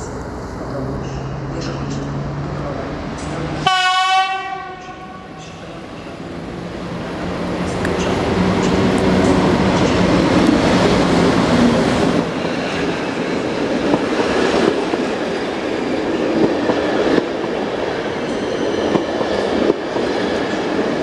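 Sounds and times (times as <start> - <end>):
train wheels rumbling on rails: 0.0 - 3.7, 4.4 - 21.0
electric locomotive hum: 0.0 - 21.0.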